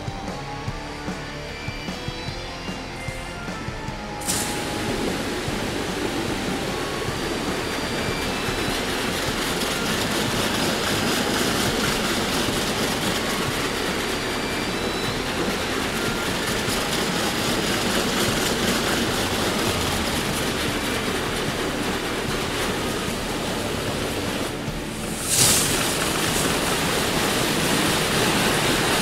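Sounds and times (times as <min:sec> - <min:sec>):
car wash machine running: 0:00.0 - 0:29.0
high-pressure water spray: 0:04.2 - 0:29.0.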